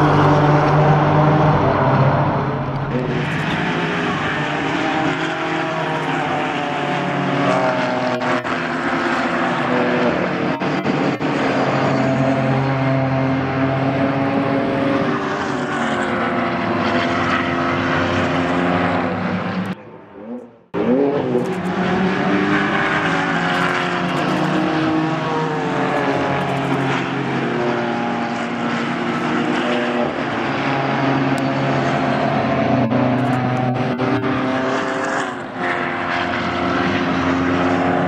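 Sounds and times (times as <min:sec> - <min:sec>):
engine revving up: 0:00.0 - 0:38.0
race car engines accelerating: 0:00.0 - 0:38.0.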